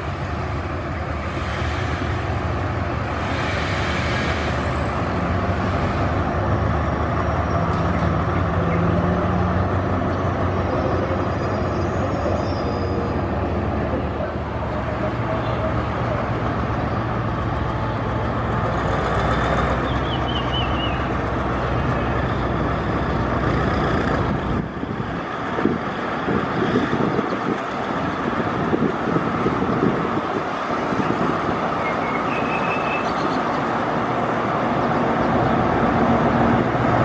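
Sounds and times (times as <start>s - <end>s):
diesel locomotive engine humming: 0.0s - 37.0s.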